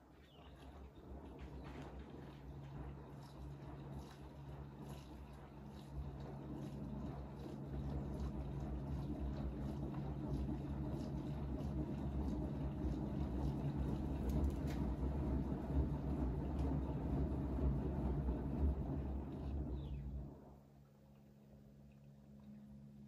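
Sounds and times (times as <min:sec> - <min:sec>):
washing machine motor hum: 0:00.5 - 0:20.7.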